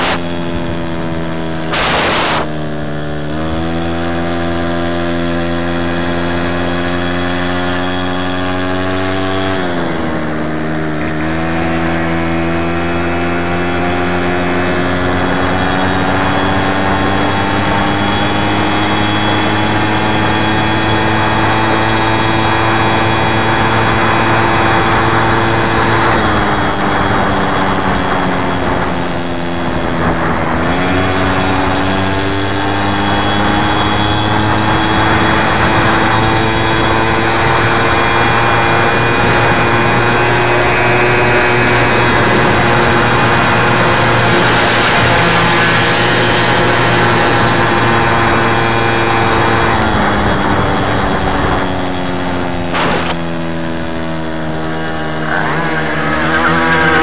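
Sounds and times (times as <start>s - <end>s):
moped engine running: 0.0s - 57.0s.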